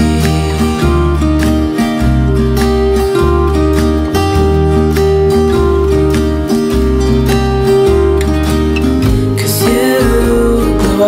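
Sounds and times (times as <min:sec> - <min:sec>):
low bass line: 0:00.0 - 0:11.0
strummed acoustic guitar: 0:00.0 - 0:11.0.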